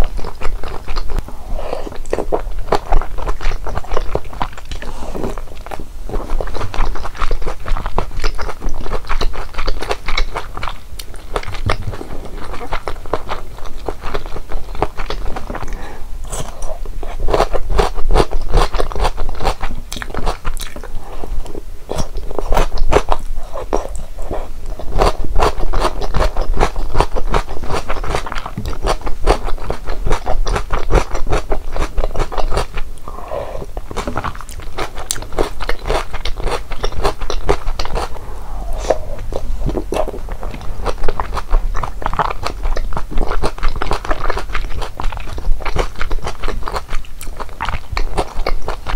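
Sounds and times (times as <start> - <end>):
mouth clicks and soft crunches: 0.0 - 48.9
person chewing food: 0.0 - 48.9.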